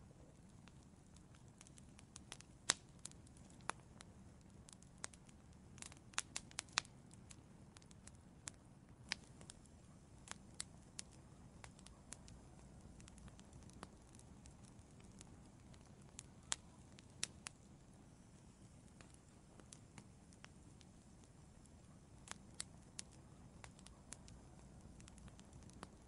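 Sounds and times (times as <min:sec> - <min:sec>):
faint low rumble: 0:00.0 - 0:26.0
wood fire crackling and popping: 0:00.0 - 0:26.0.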